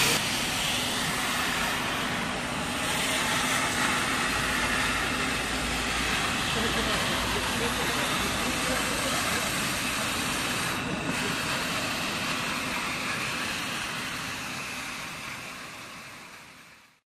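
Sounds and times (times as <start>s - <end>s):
floor scrubber whirring hiss: 0.0s - 17.0s.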